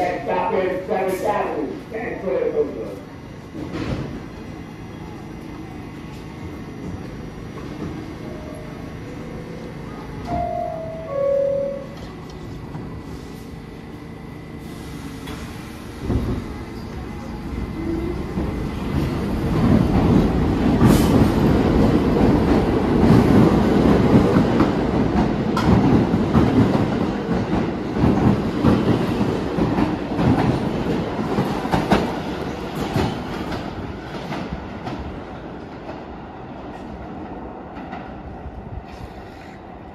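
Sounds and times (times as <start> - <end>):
subway train rumbling: 0.0 - 39.9.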